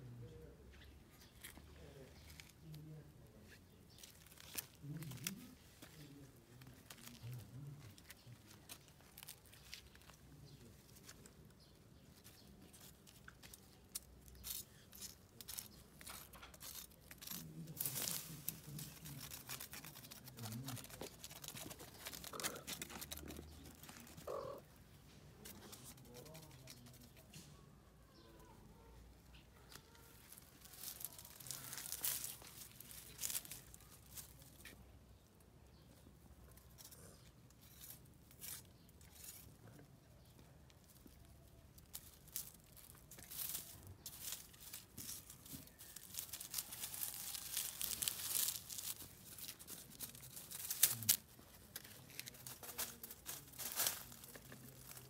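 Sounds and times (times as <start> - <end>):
dry leaves rustling and crackling: 1.2 - 24.6, 25.4 - 27.3, 29.3 - 35.2, 36.9 - 55.0.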